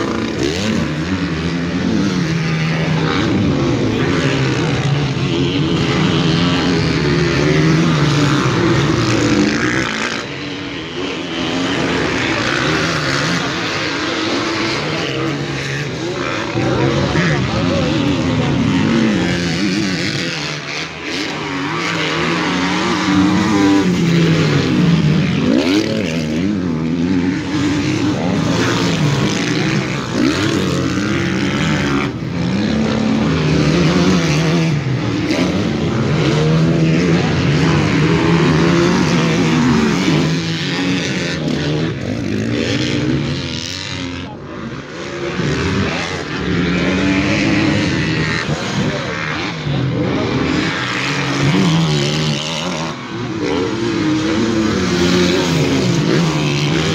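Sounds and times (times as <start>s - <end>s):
motocross bikes revving: 0.0s - 56.9s.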